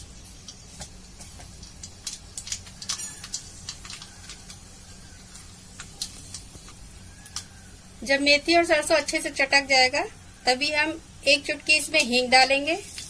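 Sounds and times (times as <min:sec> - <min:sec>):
seeds popping in hot oil: 0:00.0 - 0:09.6, 0:11.2 - 0:13.0.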